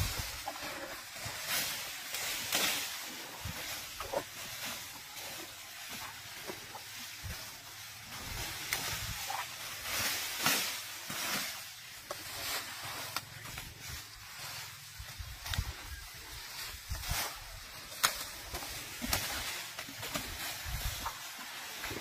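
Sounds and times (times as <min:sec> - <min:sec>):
elephant rustling vegetation: 0:00.0 - 0:22.0
sharp crackles of vegetation: 0:00.0 - 0:22.0.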